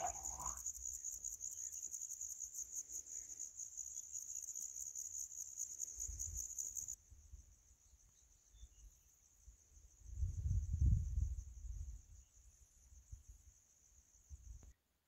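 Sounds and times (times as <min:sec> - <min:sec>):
crickets trilling: 0:00.0 - 0:14.7.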